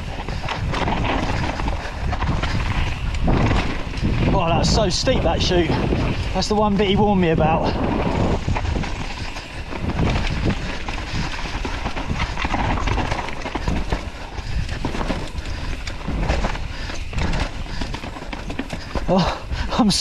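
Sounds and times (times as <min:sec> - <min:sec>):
bike rattling over bumps: 0:00.0 - 0:20.0
tyres skidding over dirt and rocks: 0:00.0 - 0:20.0.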